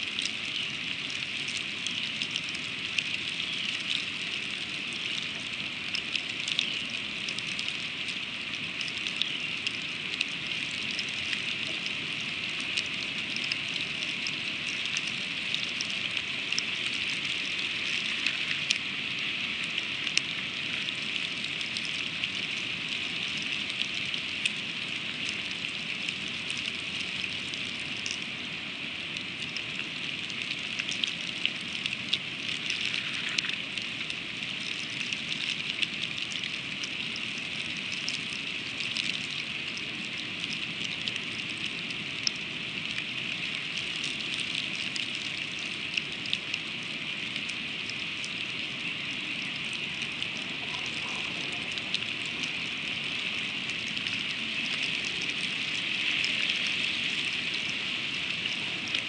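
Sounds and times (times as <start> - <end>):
freezing rain falling: 0.0 - 59.0.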